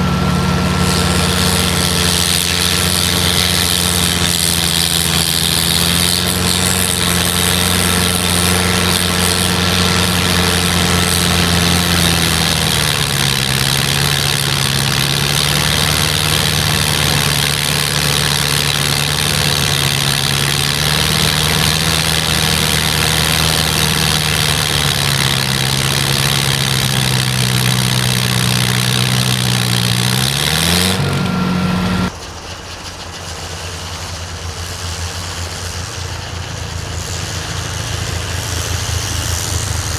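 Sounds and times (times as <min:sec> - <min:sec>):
snowblower engine running: 0:00.0 - 0:32.2, 0:33.1 - 0:39.9.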